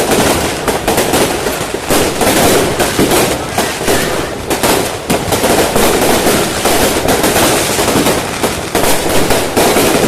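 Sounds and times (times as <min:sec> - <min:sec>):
fireworks banging and crackling: 0:00.0 - 0:10.0.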